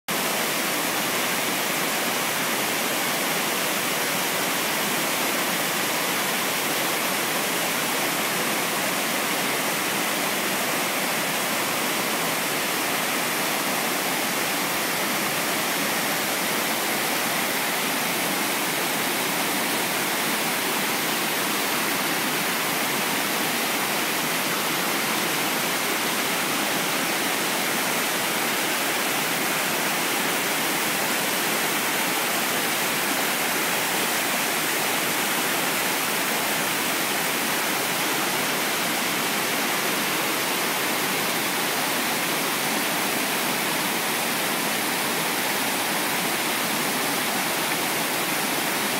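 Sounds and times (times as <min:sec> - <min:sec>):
waterfall rushing: 0:00.1 - 0:48.9.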